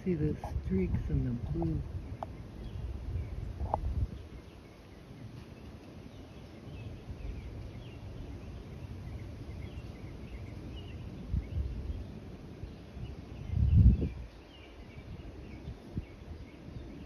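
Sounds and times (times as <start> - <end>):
low steady microphone rumble: 0.0 - 17.0
small birds chirping: 0.0 - 17.0.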